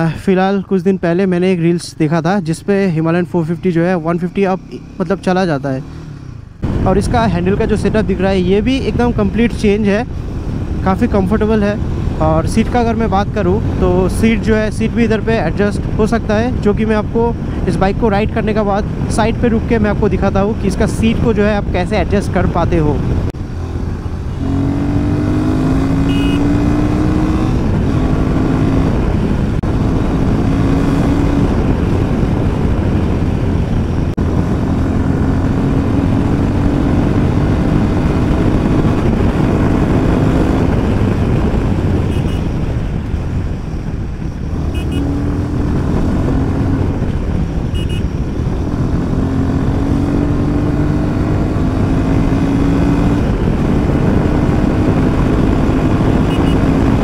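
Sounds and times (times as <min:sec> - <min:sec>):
wind noise on microphone: 0:06.3 - 0:57.0.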